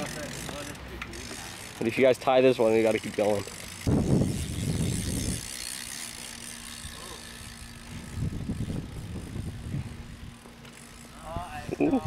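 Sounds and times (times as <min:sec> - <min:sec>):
bike tyres rolling: 0:00.0 - 0:12.0.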